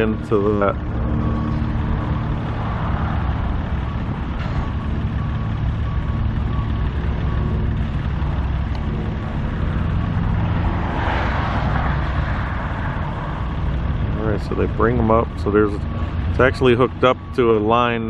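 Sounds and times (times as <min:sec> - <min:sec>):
reversing alarm beeping: 0:00.0 - 0:10.6, 0:13.1 - 0:18.0
diesel machinery engine drone: 0:00.0 - 0:18.0.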